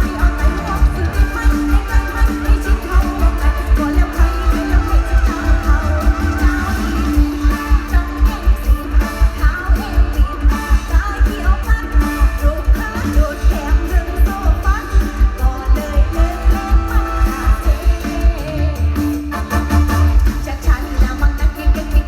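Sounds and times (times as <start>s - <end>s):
loud band music: 0.0s - 22.0s.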